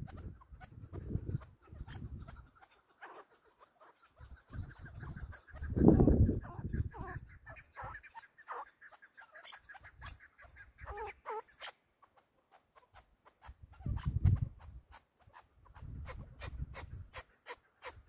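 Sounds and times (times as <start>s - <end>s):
partridges calling: 0.0s - 18.0s.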